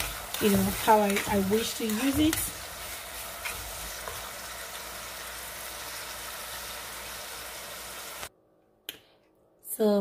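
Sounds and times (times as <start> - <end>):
carrots sizzling in oil: 0.0 - 8.3.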